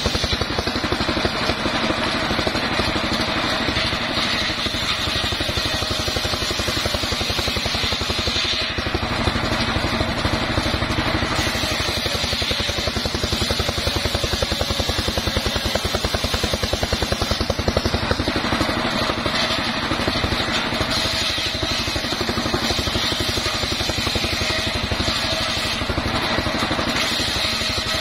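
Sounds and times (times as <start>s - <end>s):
circular saw blade cutting wood: 0.0s - 28.0s
engine pulsing steadily: 0.0s - 28.0s.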